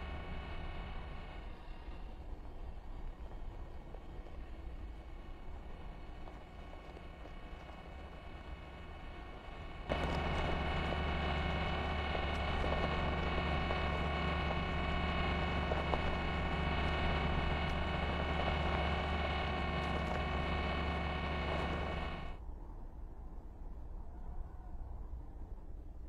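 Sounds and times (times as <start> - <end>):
mechanical hum with low drone: 0.0 - 26.0.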